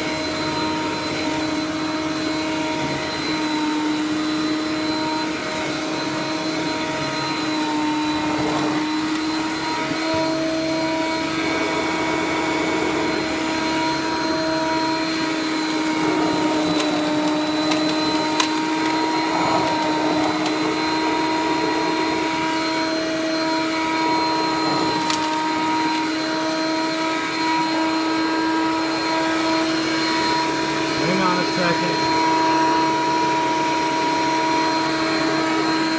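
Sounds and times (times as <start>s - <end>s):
vacuum cleaner motor whine: 0.0s - 35.9s.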